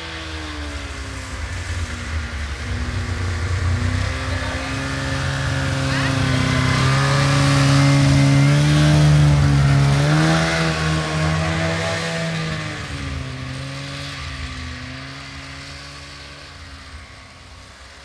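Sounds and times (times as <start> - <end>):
snowmobile engine passing: 0.0 - 18.0.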